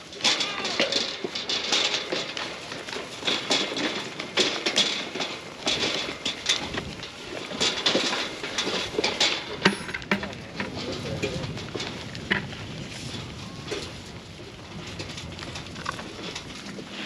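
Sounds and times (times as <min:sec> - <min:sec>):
goats crunching feed: 0:00.0 - 0:17.0.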